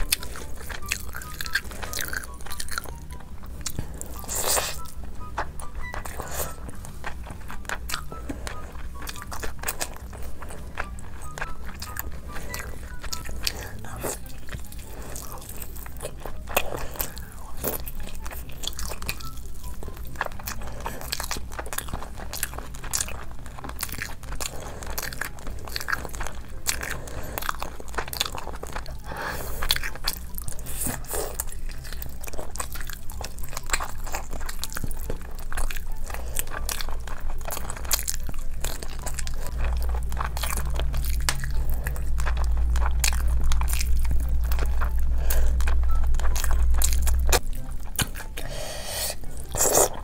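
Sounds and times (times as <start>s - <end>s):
chewing crunchy food: 0.0s - 50.0s.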